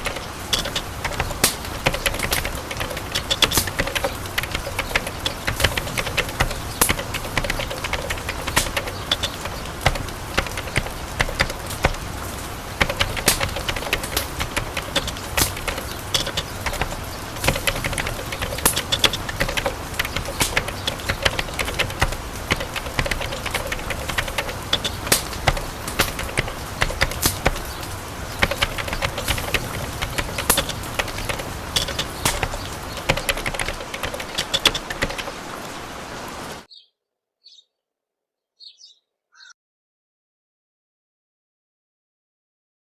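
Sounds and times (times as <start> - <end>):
sharp clicks and taps: 0.0 - 35.5
low background noise: 0.0 - 36.7.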